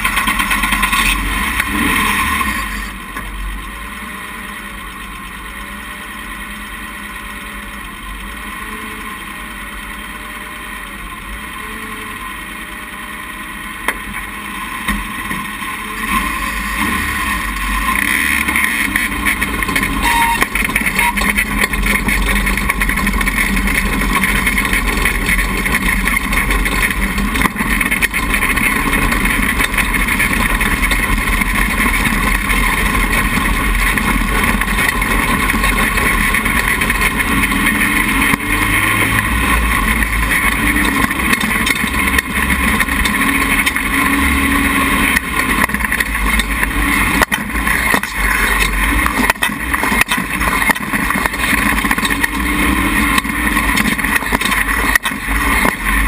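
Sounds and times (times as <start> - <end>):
sand rail engine running: 0.0 - 56.0.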